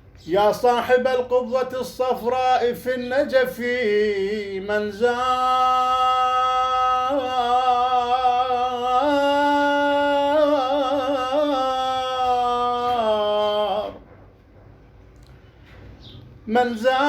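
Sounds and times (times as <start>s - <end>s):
man chanting: 0.2s - 14.1s, 16.4s - 17.0s.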